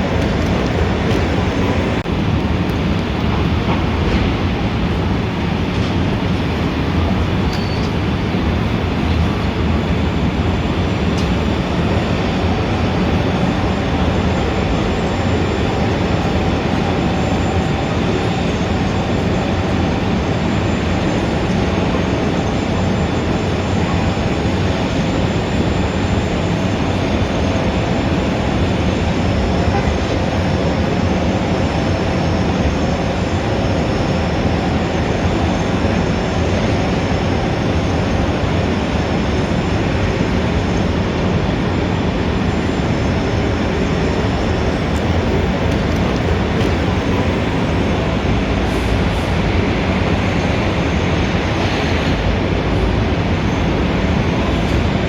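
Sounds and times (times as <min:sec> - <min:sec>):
city traffic rumble: 0:00.0 - 0:55.0.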